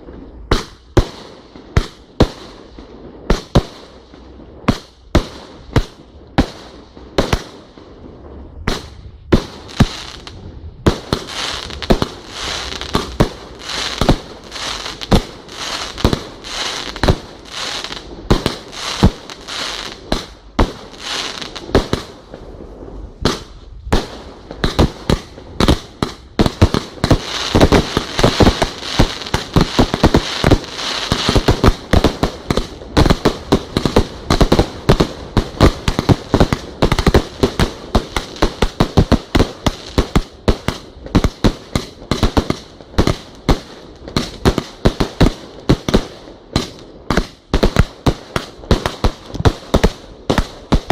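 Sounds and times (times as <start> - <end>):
fireworks bangs: 0.0 - 50.9
fireworks crackle: 0.0 - 50.9.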